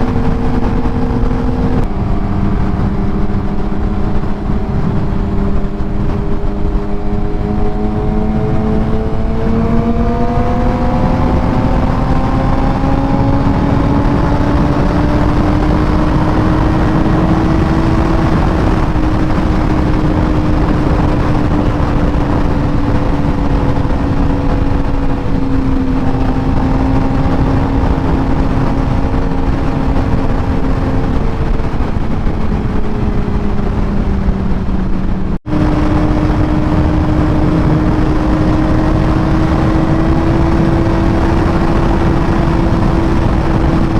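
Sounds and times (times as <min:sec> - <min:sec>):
motorcycle engine cruising: 0:00.0 - 0:43.9
wind rush: 0:00.0 - 0:43.9.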